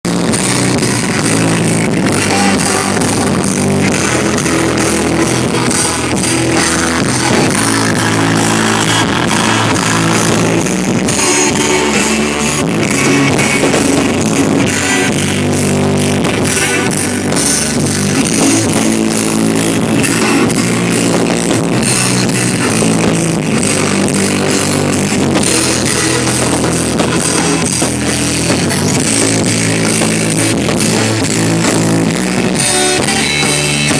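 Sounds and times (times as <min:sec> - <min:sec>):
loud rock music: 0:00.0 - 0:33.9.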